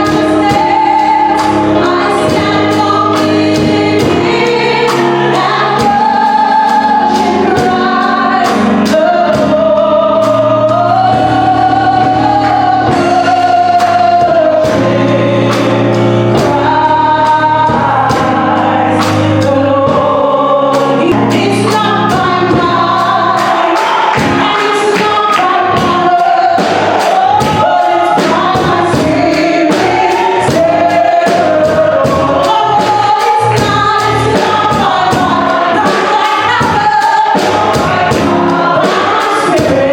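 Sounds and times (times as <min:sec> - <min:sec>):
band with bass and drums: 0:00.0 - 0:39.9
group singing gospel song: 0:00.0 - 0:39.9.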